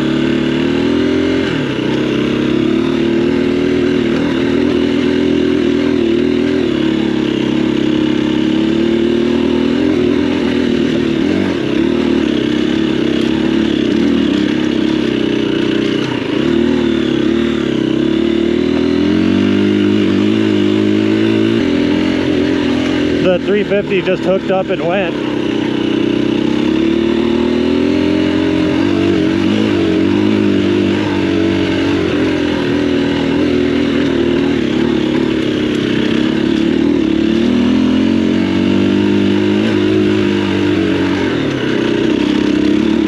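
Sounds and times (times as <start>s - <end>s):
dirt bike engine under load: 8.4s - 43.0s.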